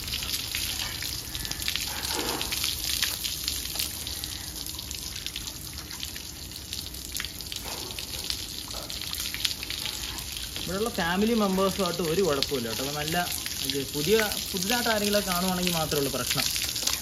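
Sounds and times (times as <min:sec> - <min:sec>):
water dripping on wooden table: 0:00.0 - 0:17.0
water pouring from hose: 0:00.0 - 0:17.0.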